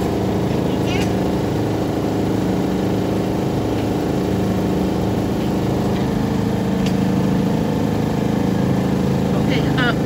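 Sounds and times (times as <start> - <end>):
refrigerated case humming: 0.0 - 10.0.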